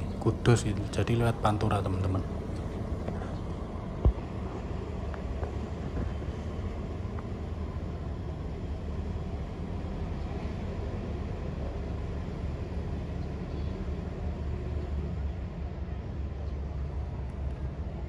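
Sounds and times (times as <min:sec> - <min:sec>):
diesel bus engine rumble: 0:00.0 - 0:18.0.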